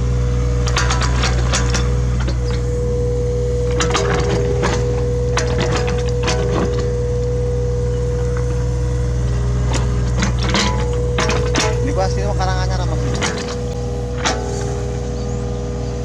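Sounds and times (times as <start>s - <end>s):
excavator engine whining: 0.0s - 16.0s.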